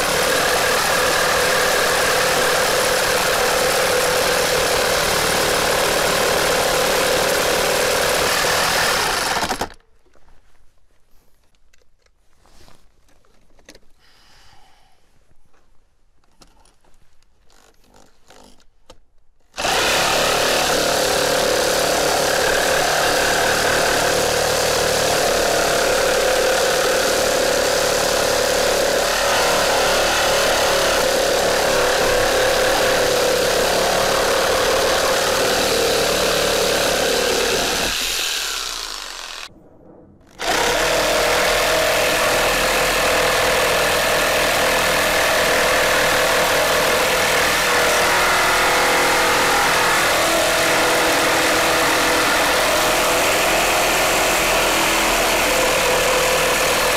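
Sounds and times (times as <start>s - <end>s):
reciprocating saw cutting timber: 0.0s - 9.8s, 19.6s - 39.5s, 40.3s - 56.9s.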